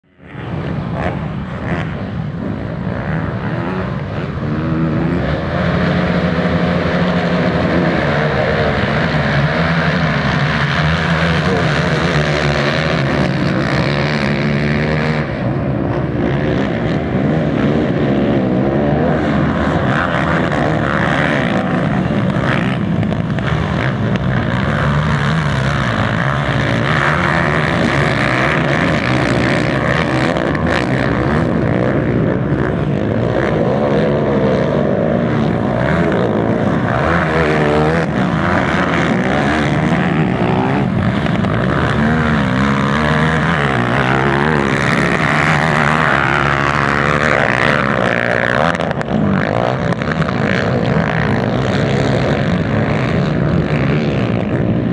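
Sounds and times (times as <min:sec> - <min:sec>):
quad engines revving: 0:00.2 - 0:54.9.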